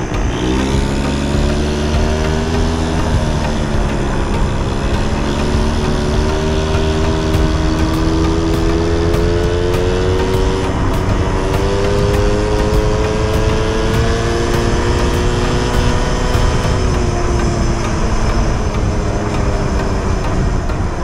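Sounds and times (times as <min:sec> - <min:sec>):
mini bike engine running: 0:00.0 - 0:21.0
wind and road noise: 0:00.0 - 0:21.0.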